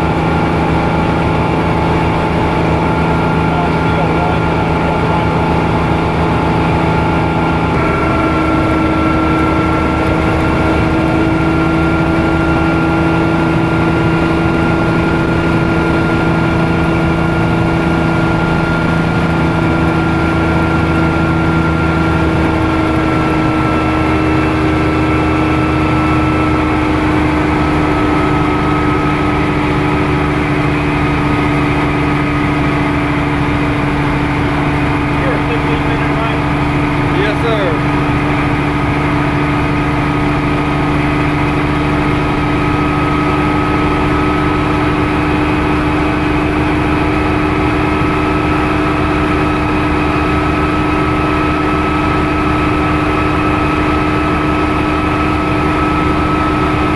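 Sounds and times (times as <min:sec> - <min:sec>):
helicopter engine and rotor: 0:00.0 - 0:56.9.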